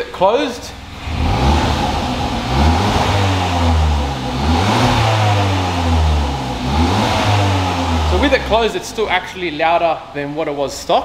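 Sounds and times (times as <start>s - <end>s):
car engine revving: 0.6s - 9.9s.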